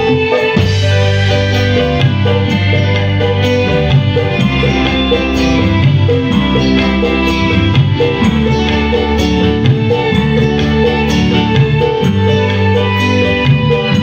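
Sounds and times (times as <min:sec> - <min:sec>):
live band through pa: 0:00.0 - 0:14.0.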